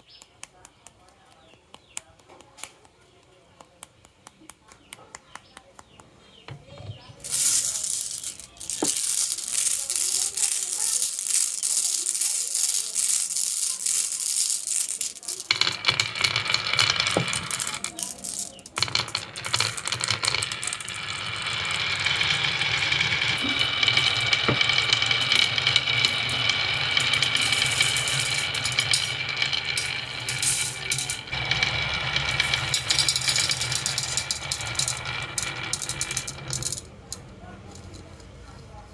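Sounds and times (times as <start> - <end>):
marbles rolling down marble run: 6.5 - 38.3.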